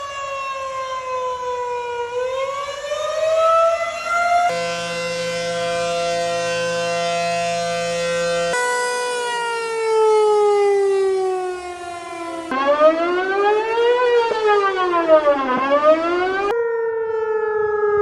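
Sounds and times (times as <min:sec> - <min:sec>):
siren rising in pitch: 0:00.0 - 0:18.0
siren winding down: 0:00.0 - 0:18.0
steady siren tone: 0:00.0 - 0:18.0.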